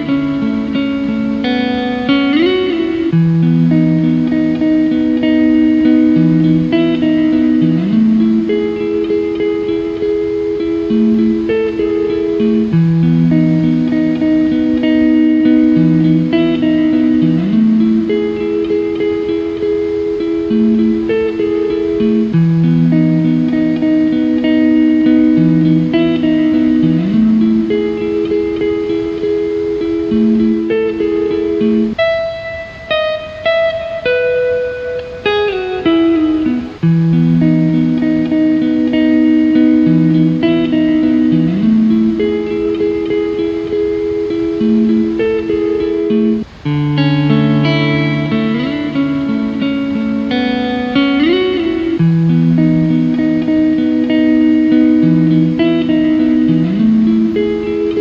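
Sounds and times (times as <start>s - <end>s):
calm instrumental music: 0.0s - 58.0s.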